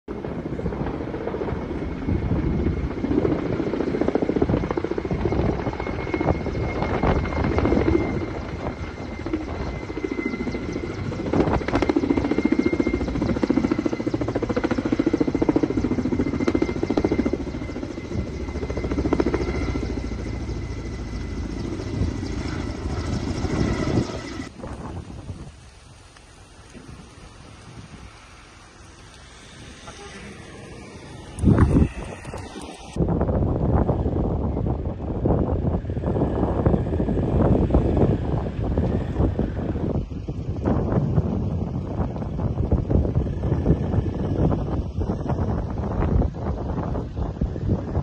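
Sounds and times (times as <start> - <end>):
helicopter rotor chop: 0.1 - 25.5, 26.7 - 48.0
helicopter high whine: 0.1 - 48.0.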